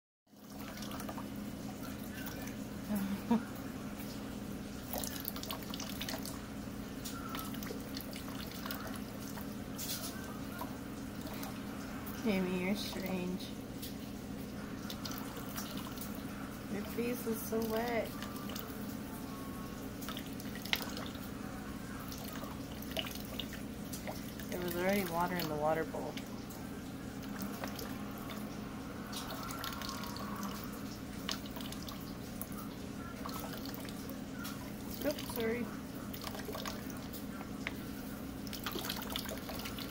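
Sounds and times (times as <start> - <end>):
water trickling into plastic bowl: 0.3 - 39.9
cat drinking splashes: 0.4 - 18.9, 19.9 - 39.9
low hum: 0.4 - 39.9.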